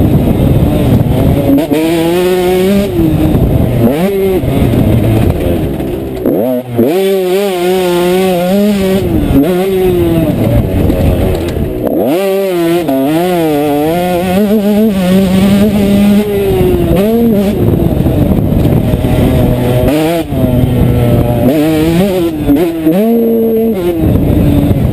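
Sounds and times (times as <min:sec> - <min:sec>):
motocross bike engine revving: 0:00.0 - 0:24.9.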